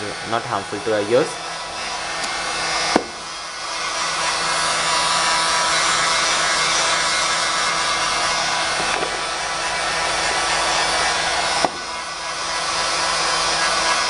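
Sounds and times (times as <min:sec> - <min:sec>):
hot air gun blowing: 0:00.0 - 0:14.0.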